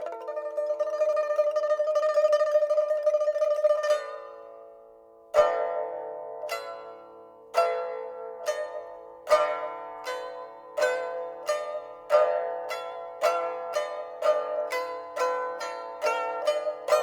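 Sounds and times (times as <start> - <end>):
plucked string instrument notes: 0.0 - 17.0.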